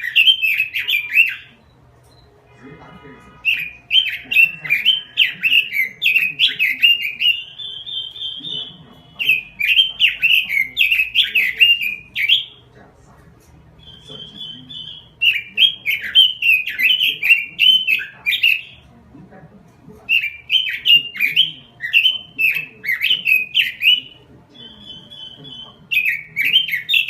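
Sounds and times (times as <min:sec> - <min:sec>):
bird singing: 0:00.0 - 0:12.8, 0:13.7 - 0:18.9, 0:20.0 - 0:27.0.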